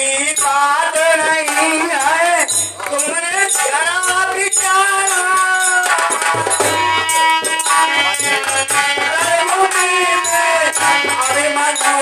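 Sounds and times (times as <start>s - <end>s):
jingling percussion: 0.0s - 12.0s
sustained devotional melody: 0.0s - 12.0s
hand drum beats: 1.0s - 12.0s.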